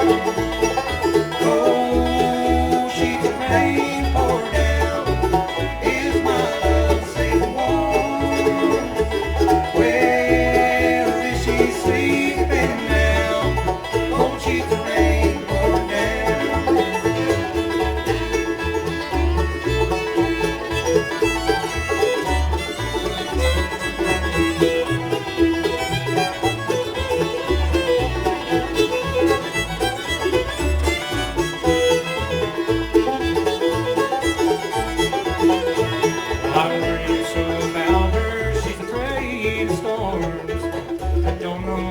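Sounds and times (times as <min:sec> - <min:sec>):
bluegrass band playing: 0:00.0 - 0:41.9.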